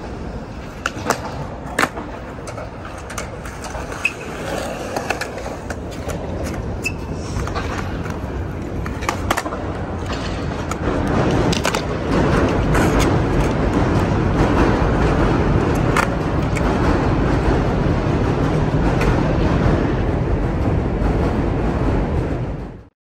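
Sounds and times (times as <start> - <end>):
skateboard wheels rolling on concrete: 0.0 - 22.9
skateboards clacking on ground: 0.0 - 22.9.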